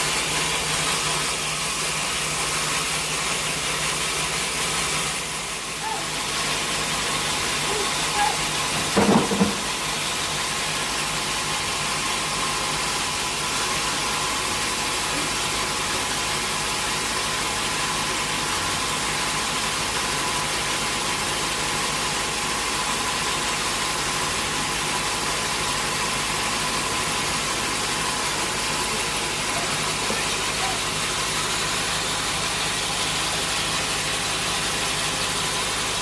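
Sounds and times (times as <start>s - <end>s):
sawmill machinery humming: 0.0s - 36.0s.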